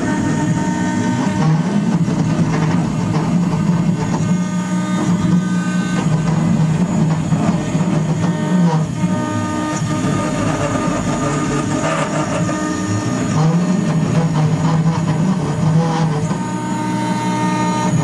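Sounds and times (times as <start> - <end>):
wood router carving wood: 0.0 - 18.0.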